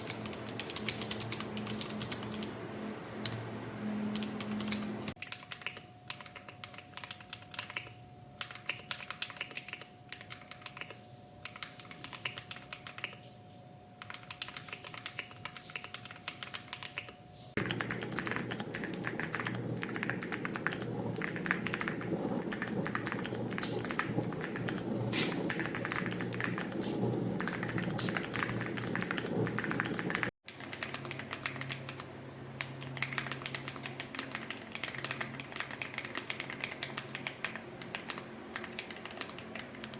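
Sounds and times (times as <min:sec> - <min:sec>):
mechanical keyboard typing: 0:00.0 - 0:02.5, 0:04.1 - 0:13.2, 0:14.0 - 0:39.9
faint steady hum: 0:00.0 - 0:39.9.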